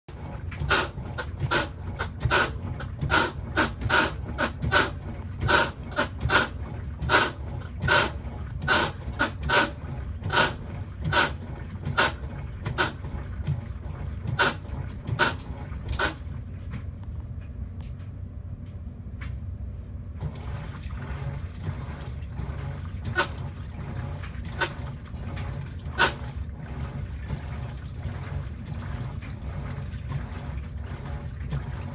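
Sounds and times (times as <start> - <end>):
washing machine rumbling: 0.0 - 31.9.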